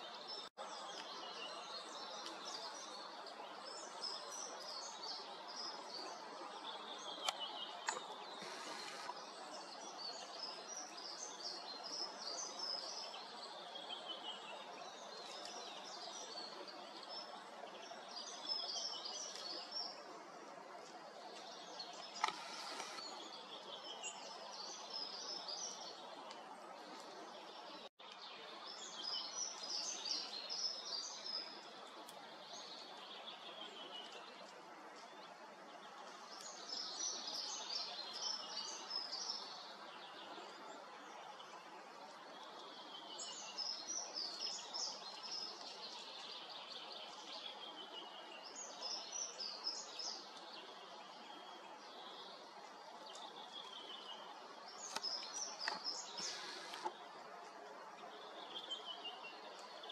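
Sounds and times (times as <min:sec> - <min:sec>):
forest ambience hiss: 0:00.1 - 0:59.9.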